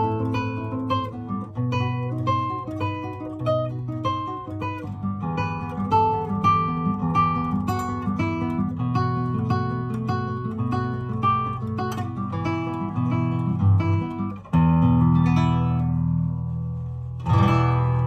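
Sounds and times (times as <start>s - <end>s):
classical guitar melody: 0.0s - 18.0s.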